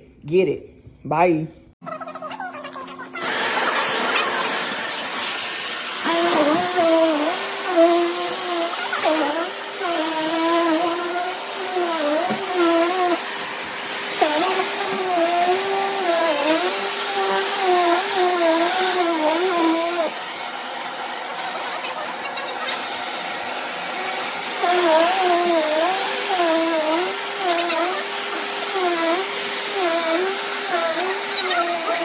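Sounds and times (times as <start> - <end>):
vacuum cleaner motor hum: 3.2 - 32.0.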